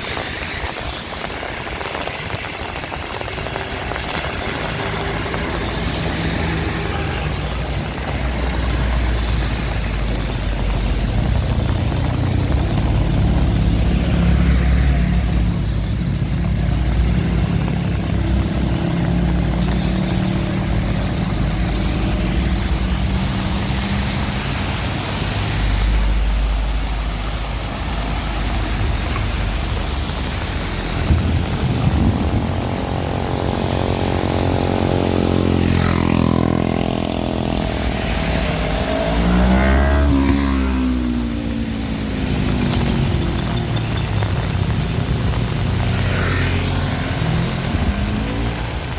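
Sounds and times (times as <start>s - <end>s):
heavy rain falling: 0.0s - 48.9s
vehicle engines running: 0.0s - 48.9s
vehicle passing by: 4.0s - 48.9s.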